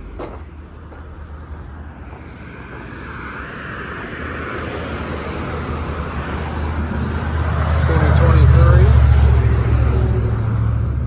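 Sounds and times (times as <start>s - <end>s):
vehicle rumble with hiss: 0.0s - 11.0s.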